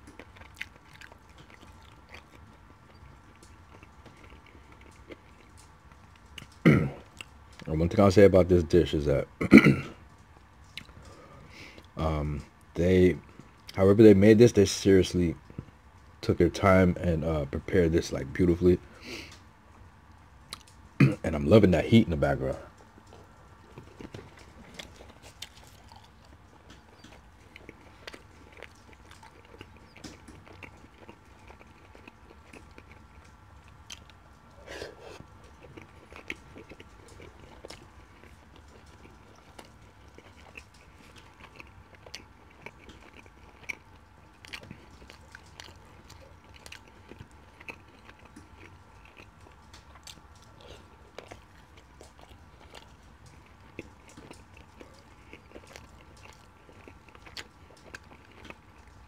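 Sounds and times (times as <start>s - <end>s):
chewing and wet mouth sounds: 0.0s - 59.0s
faint steady hum: 0.0s - 59.0s.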